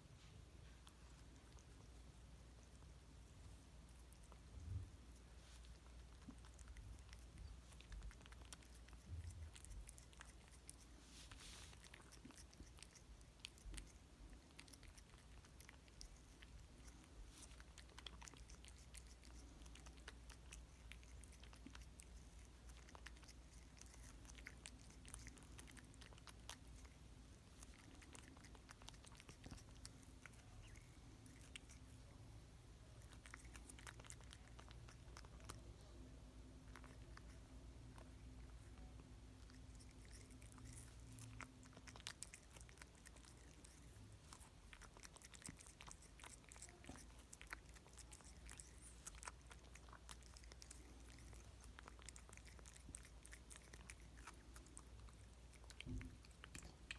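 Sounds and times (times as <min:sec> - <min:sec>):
cat chewing: 0:00.0 - 0:56.9.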